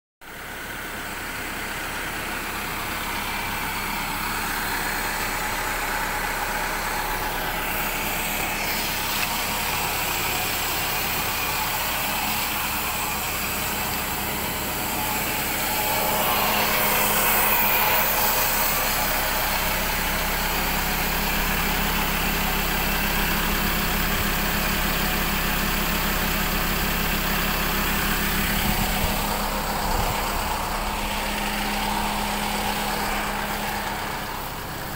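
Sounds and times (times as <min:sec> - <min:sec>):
diesel engine idling: 0:00.2 - 0:34.9
exhaust hiss: 0:02.1 - 0:34.9.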